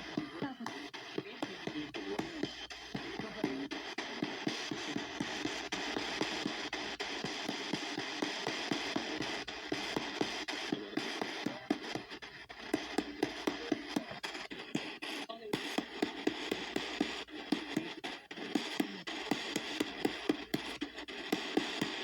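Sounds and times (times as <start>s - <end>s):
fragments of radio broadcast: 0.0s - 22.0s
radio static hiss: 0.0s - 22.0s.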